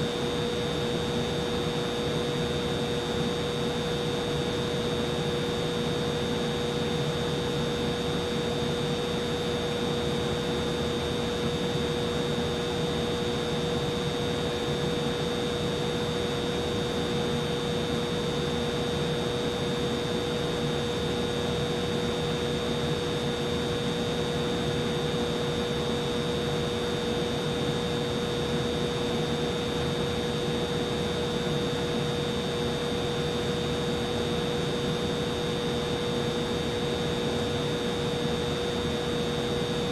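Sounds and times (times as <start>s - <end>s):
humidifier hum with high whine: 0.0s - 39.9s.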